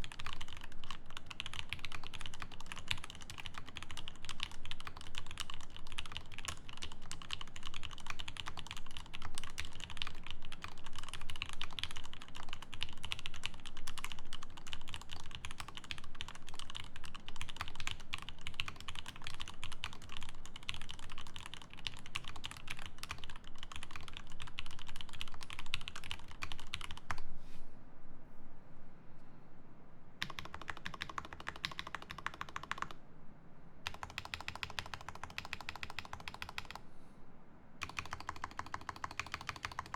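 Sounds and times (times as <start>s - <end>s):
mechanical keyboard typing: 0.0s - 27.2s, 30.2s - 33.0s, 33.8s - 36.8s, 37.8s - 39.9s.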